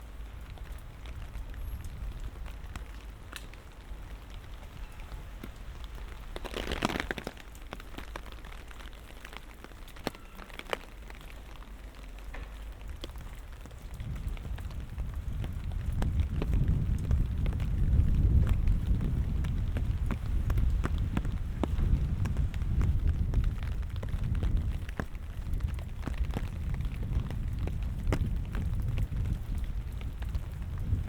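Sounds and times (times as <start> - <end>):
light rain patter: 0.0 - 31.0
rain drop clicks: 0.0 - 31.0.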